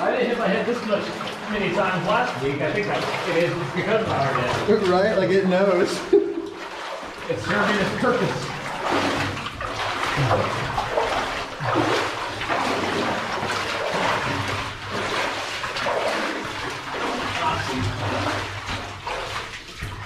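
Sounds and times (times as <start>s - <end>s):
boots splashing through water: 0.0s - 20.0s.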